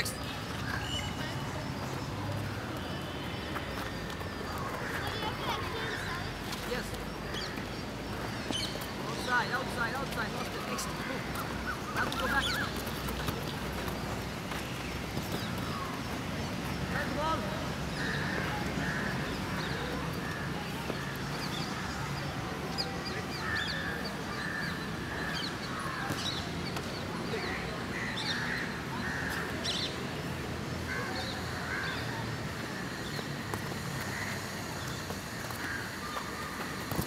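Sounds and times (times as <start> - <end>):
birds calling roughly: 0.0 - 37.0
outdoor background: 0.0 - 37.0.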